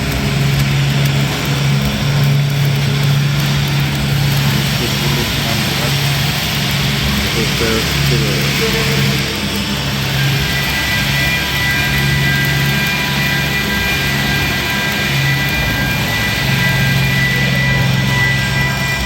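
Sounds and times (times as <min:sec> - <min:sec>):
low machinery hum: 0:00.0 - 0:19.0
steady high whine: 0:00.0 - 0:19.0
welding arc crackling and hissing: 0:00.0 - 0:19.0.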